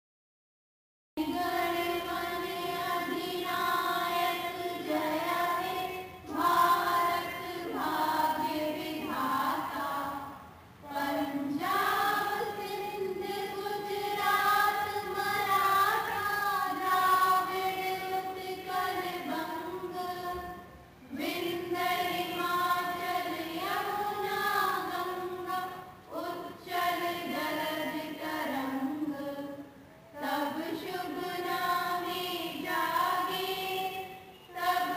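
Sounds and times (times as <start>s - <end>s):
children singing together: 1.2s - 34.9s.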